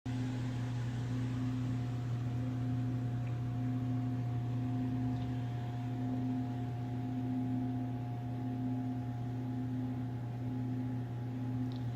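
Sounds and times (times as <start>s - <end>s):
mechanical hum with tones: 0.1s - 11.9s.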